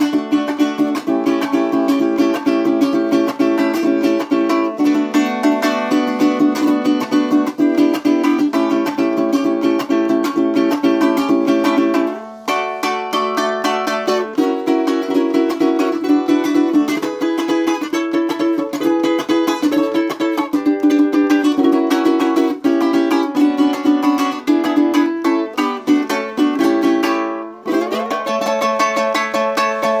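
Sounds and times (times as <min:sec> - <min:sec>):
cuatro strummed chords: 0:00.0 - 0:30.0.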